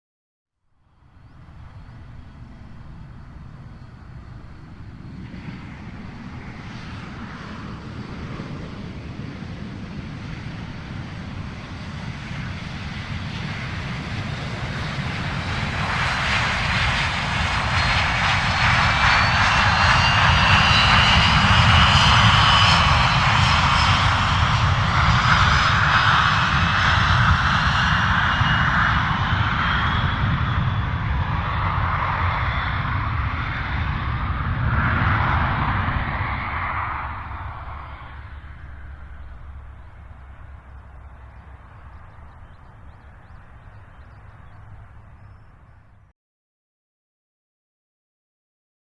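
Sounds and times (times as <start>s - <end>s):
jet engine rumble: 0.7s - 46.1s
jet engine high whine: 0.8s - 46.1s.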